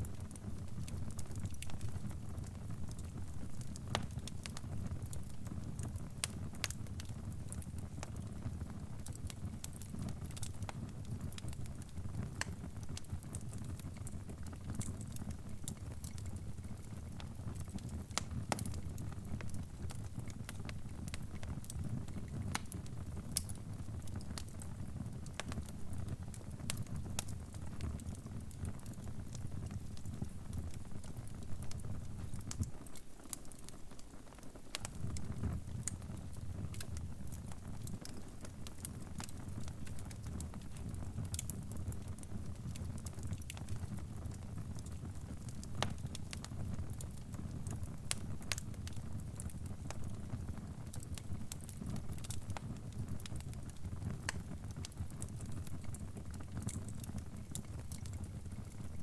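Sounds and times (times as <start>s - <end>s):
low rumble of flames: 0.0s - 59.0s
wood fire popping and snapping: 0.0s - 59.0s.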